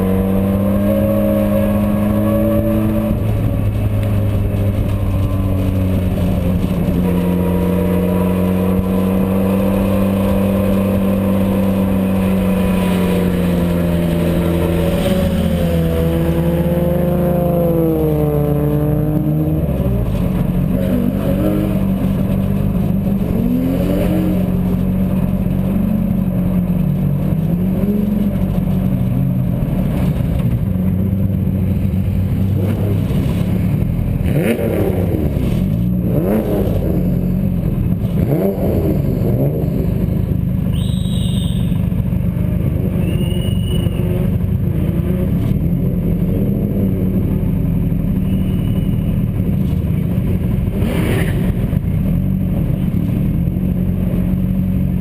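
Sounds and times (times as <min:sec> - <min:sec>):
race car engine at speed: 0:00.0 - 0:55.0.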